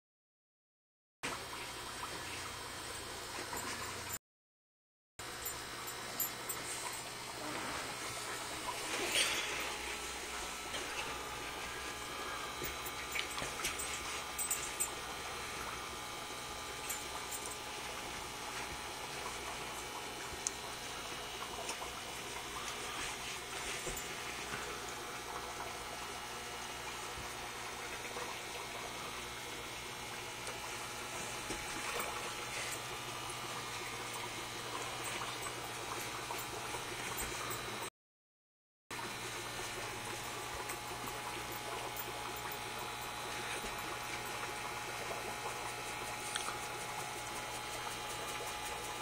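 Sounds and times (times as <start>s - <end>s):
water trickling in aquarium: 5.4s - 37.9s, 39.0s - 49.0s.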